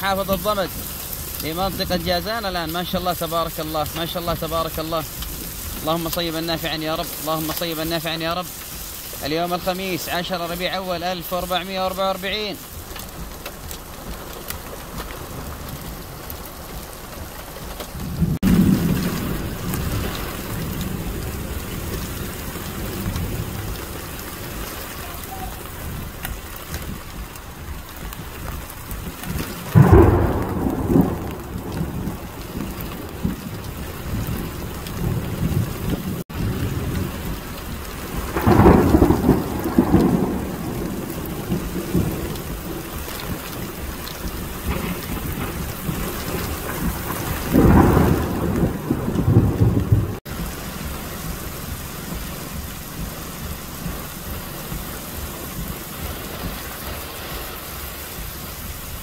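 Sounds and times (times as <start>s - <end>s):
heavy rain pouring: 0.0s - 59.0s
thunder rumbling: 0.0s - 59.0s.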